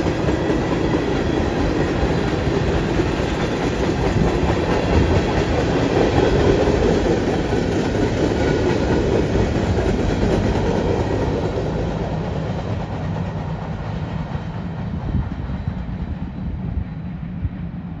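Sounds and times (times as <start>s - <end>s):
freight train rolling on rails: 0.0s - 18.0s.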